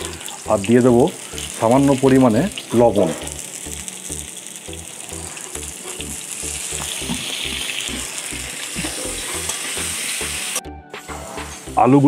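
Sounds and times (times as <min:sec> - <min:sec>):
potatoes sizzling in hot oil: 0:00.0 - 0:10.6.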